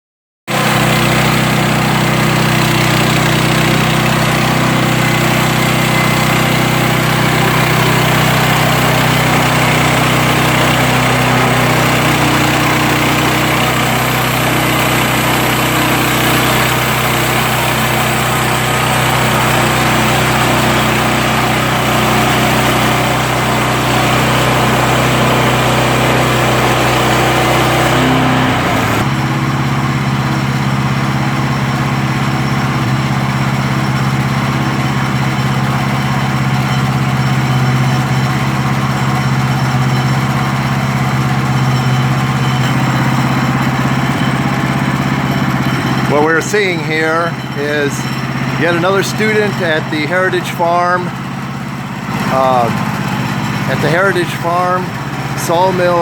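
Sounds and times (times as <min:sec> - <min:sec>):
sawmill engine running: 0:00.5 - 0:56.0.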